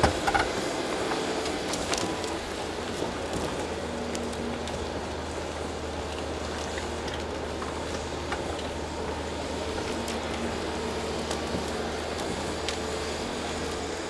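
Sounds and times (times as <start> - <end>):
light clicks and cracks: 0.0 - 10.5, 11.1 - 13.9
excavator diesel engine running: 0.0 - 14.0.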